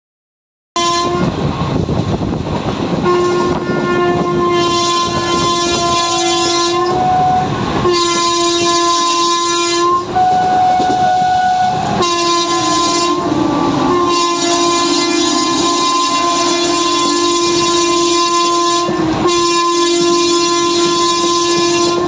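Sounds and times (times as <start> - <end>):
train horn blasts: 0.8 - 1.5, 2.9 - 22.0
train rumbling: 0.8 - 22.0.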